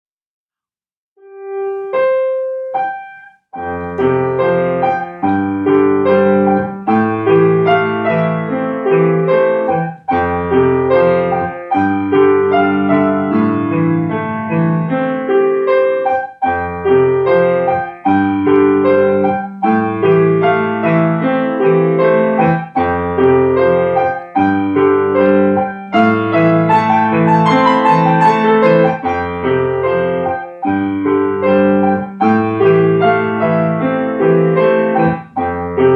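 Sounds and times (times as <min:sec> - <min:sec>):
solo piano chords: 0:01.2 - 0:35.9.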